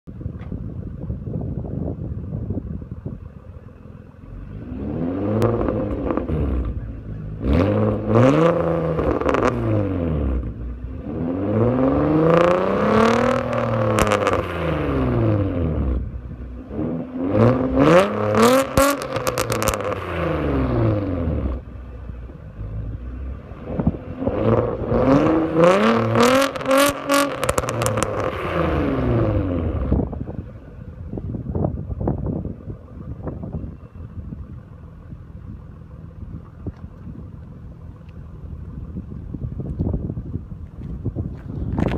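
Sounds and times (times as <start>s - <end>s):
exhaust crackles: 2.1s - 41.9s
car engine revving: 4.1s - 41.9s.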